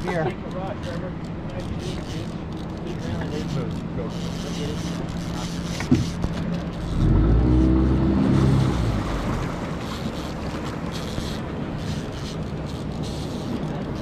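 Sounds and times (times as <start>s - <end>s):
motorboat engine: 0.0s - 14.0s
water noise: 0.0s - 14.0s
wind: 0.0s - 14.0s.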